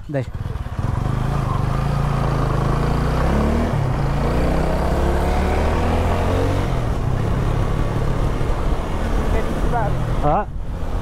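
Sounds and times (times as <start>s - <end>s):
motorcycle engine accelerating: 0.2s - 11.0s.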